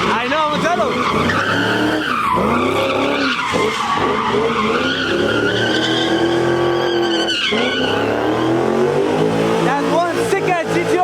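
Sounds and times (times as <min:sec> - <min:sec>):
car engine revving: 0:00.0 - 0:11.0
tyres squealing: 0:00.0 - 0:11.0.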